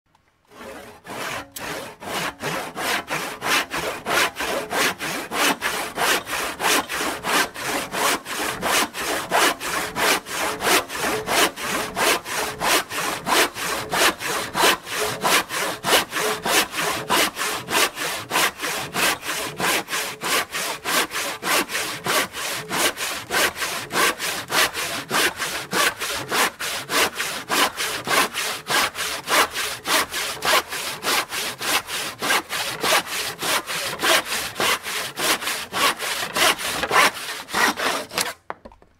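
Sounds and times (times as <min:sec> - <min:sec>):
hand saw cutting wood: 0:00.5 - 0:38.6.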